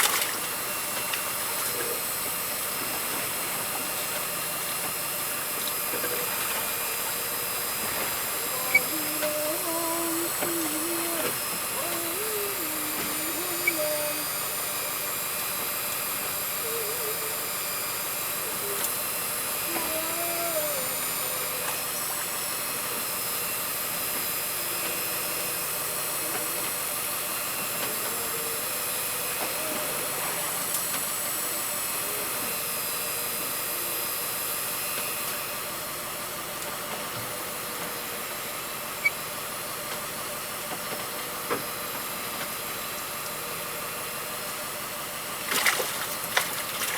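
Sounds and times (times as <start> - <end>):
boat engine whining: 0.0 - 46.9.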